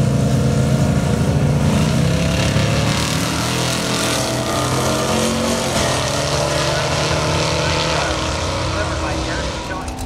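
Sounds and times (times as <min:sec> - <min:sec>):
car engines accelerating: 0:00.0 - 0:10.0.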